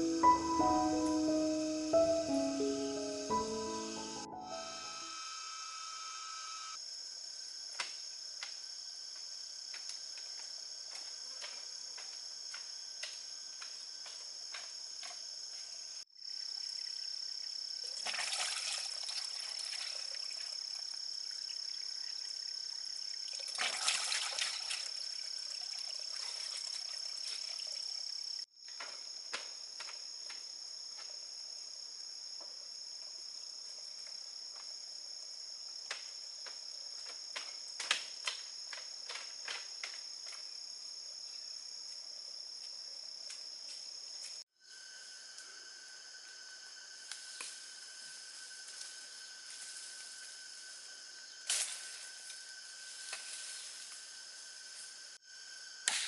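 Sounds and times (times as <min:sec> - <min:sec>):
insect chorus: 0:00.0 - 0:56.0.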